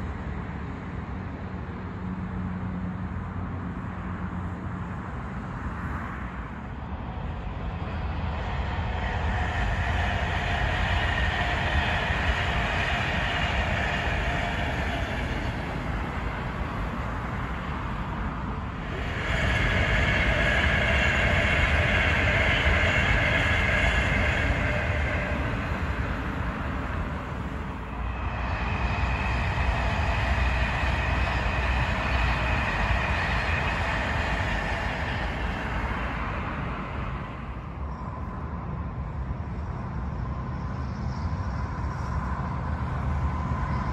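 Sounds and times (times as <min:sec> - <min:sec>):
train wheels rumbling on rails: 0:00.0 - 0:43.9
steady whine: 0:04.6 - 0:43.9.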